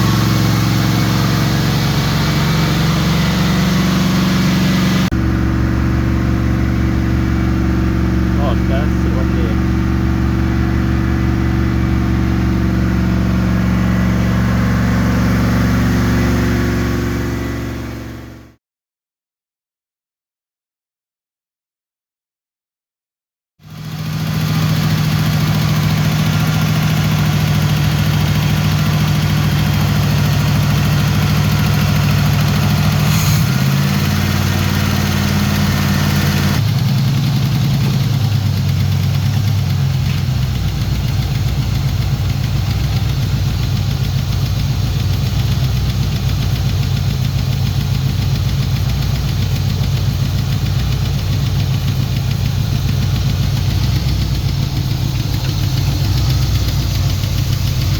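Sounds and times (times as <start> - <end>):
car engine running: 0.0 - 18.6, 23.7 - 57.9.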